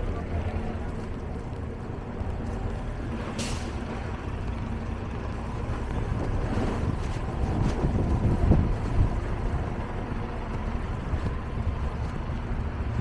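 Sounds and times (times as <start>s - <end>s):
motor vehicle approaching: 0.0s - 13.0s
street traffic rumble: 0.0s - 13.0s.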